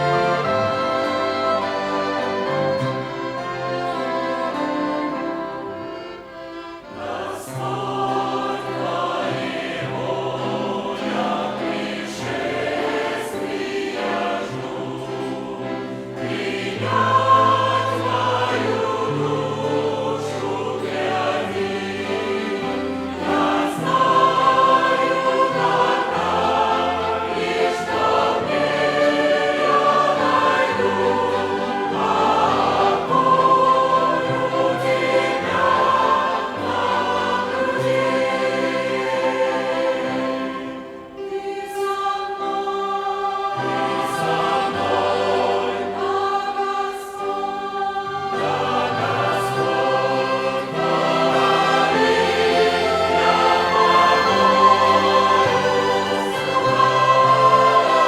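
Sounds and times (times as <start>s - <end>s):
church choir singing a hymn: 0.0s - 58.0s
violin ensemble: 0.0s - 58.0s.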